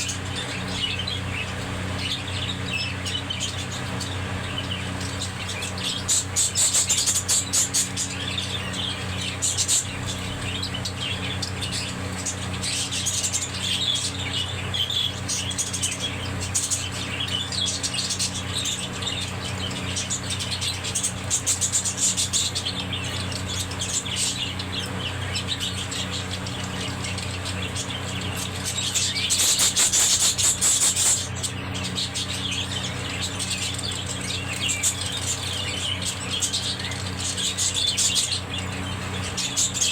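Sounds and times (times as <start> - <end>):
budgerigars chattering: 0.0 - 39.9
steady low hum: 0.0 - 39.9.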